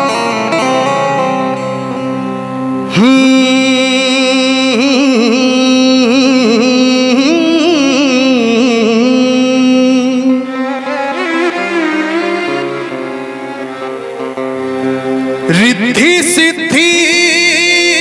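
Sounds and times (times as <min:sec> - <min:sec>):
instrumental backing: 0:00.0 - 0:18.0
man singing long held note: 0:00.0 - 0:18.0.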